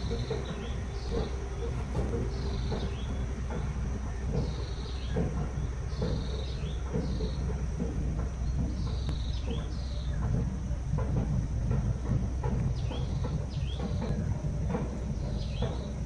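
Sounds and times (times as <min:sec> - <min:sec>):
bird chirping: 0:00.0 - 0:11.3, 0:12.0 - 0:16.0
low rumble: 0:00.0 - 0:16.0.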